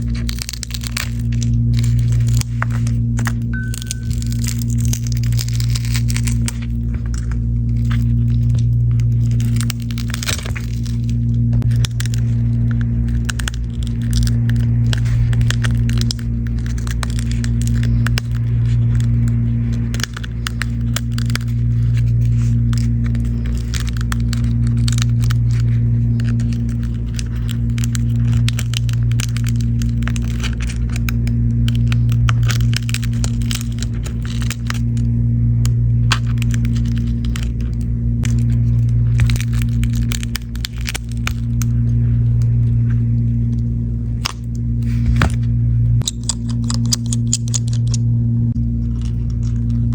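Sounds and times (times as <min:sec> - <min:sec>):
small sharp cracks and clicks: 0:00.0 - 0:44.6, 0:46.0 - 0:48.0
steady low hum: 0:00.0 - 0:49.9.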